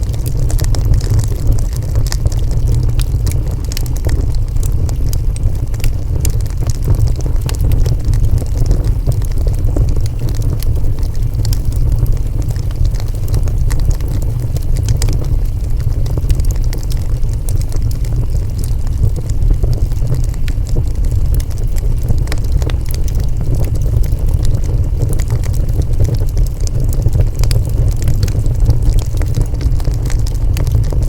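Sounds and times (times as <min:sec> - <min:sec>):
fire crackles and pops: 0:00.0 - 0:31.0
low rumble of flames: 0:00.0 - 0:31.0.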